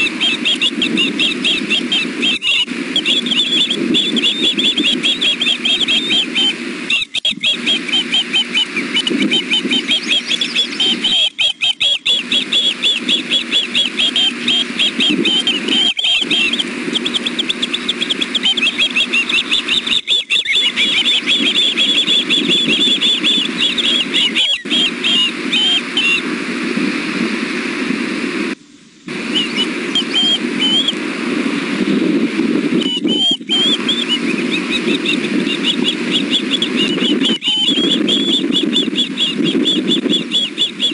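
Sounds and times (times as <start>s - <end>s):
young birds chirping whistles: 0.0s - 26.3s, 29.1s - 31.1s, 32.6s - 40.9s.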